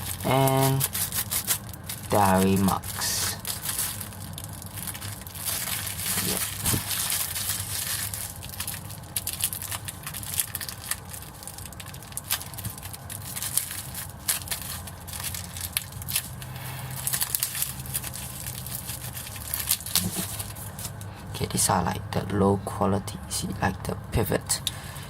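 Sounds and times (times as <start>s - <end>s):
thin plastic crinkling: 0.0s - 21.1s.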